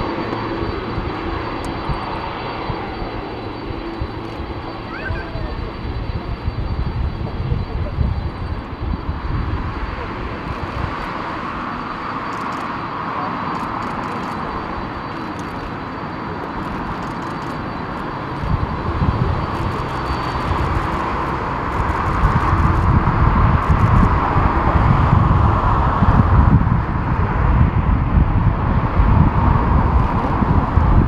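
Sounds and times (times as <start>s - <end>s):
deep jet rumble: 0.0s - 31.0s
distant jet roar: 0.0s - 31.0s.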